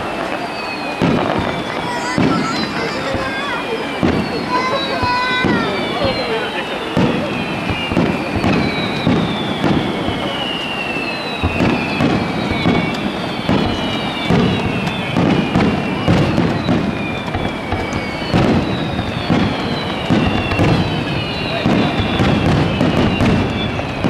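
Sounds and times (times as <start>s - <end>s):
falling firework whistles: 0.0s - 24.0s
fireworks launching and bursting: 0.0s - 24.0s.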